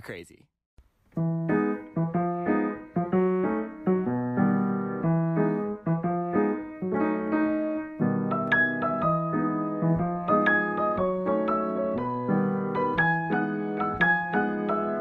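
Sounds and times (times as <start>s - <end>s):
piano chords: 1.2s - 15.0s.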